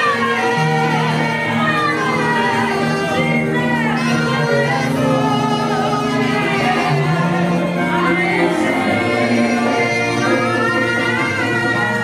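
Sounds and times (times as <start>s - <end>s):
held instrumental chords: 0.0s - 12.0s
woman singing into a microphone: 0.0s - 12.0s.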